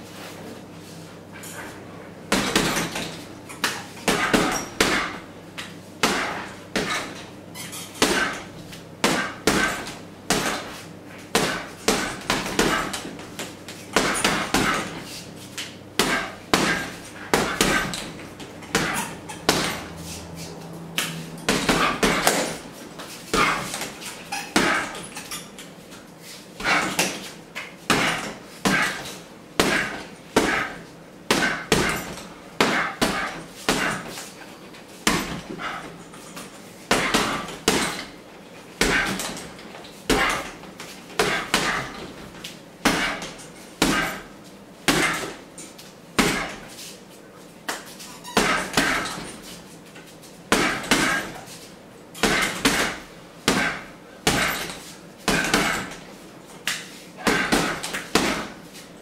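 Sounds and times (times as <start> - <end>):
gloves punching heavy bag: 2.3 - 5.3, 6.0 - 7.2, 8.0 - 15.2, 15.9 - 25.6, 26.6 - 34.4, 35.0 - 38.2, 38.8 - 45.5, 46.2 - 46.7, 47.7 - 49.6, 50.5 - 51.5, 52.2 - 58.6.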